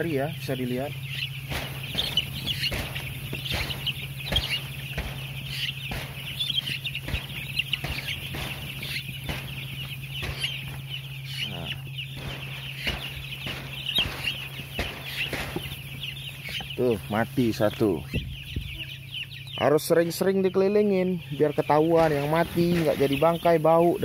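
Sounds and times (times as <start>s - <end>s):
chicks peeping: 0.0s - 24.0s
steady low hum: 0.0s - 24.0s.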